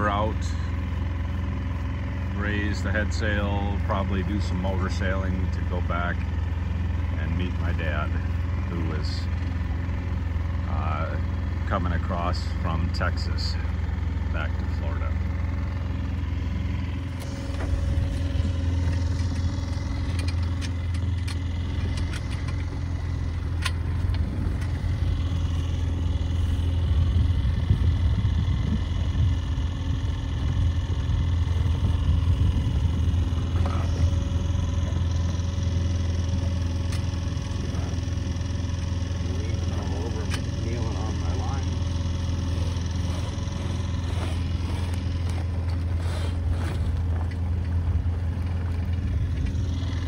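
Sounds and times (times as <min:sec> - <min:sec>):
outboard motor humming: 0:00.0 - 0:50.0.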